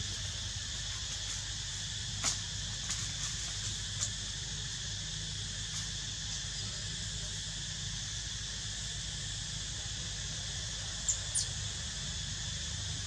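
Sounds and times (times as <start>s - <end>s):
insect chorus buzzing: 0.0s - 13.0s
low steady rumble: 0.0s - 13.0s.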